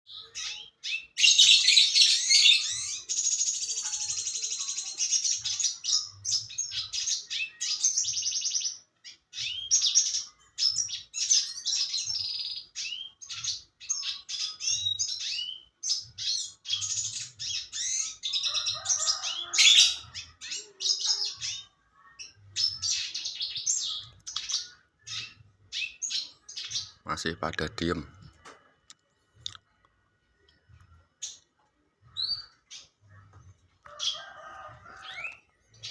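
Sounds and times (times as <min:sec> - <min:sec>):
bird twittering and trilling: 0:00.1 - 0:28.5, 0:30.4 - 0:35.9.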